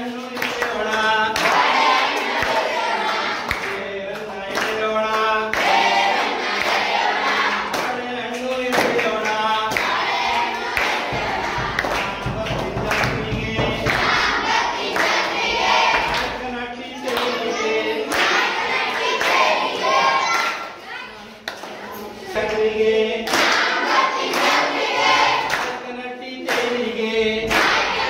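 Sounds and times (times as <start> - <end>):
adult leading song: 0.0 - 20.4, 21.9 - 28.0
children singing together: 1.2 - 3.8, 5.4 - 7.9, 8.7 - 25.8, 26.4 - 28.0.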